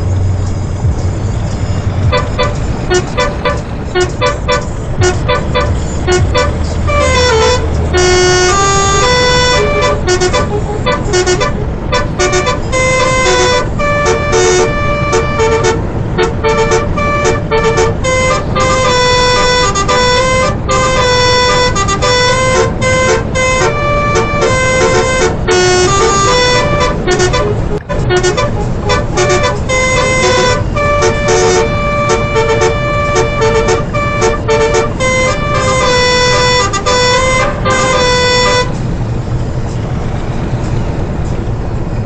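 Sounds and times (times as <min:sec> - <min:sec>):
low engine hum: 0:00.0 - 0:42.0
musical air horn playing tune: 0:01.6 - 0:38.9.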